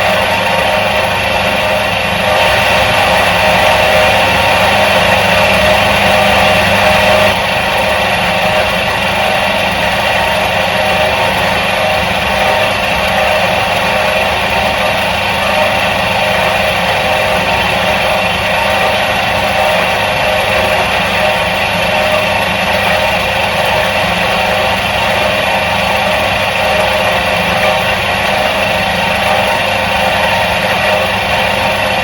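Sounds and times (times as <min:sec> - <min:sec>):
washing machine motor humming: 0:00.0 - 0:32.0.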